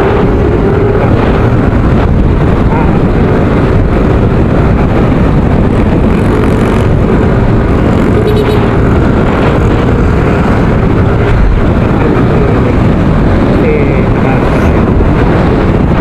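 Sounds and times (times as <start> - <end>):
motorcycle engine: 0.0 - 16.0
wind buffeting microphone: 0.0 - 16.0.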